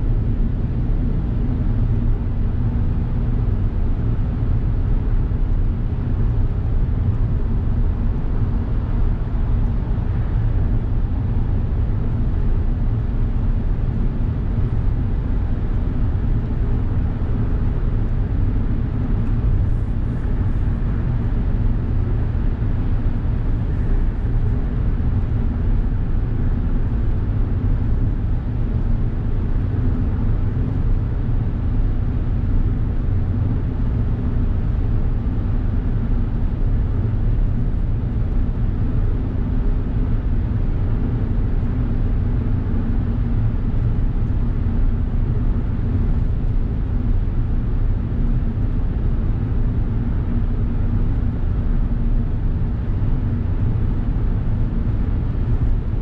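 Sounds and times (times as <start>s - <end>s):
road and engine drone in car cabin: 0.0s - 56.0s.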